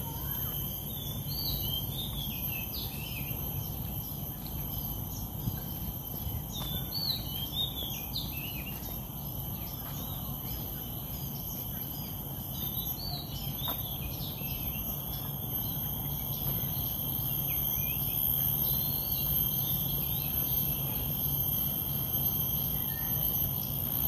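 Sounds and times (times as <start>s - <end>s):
insects trilling: 0.0s - 24.0s
low steady background hum: 0.0s - 24.0s.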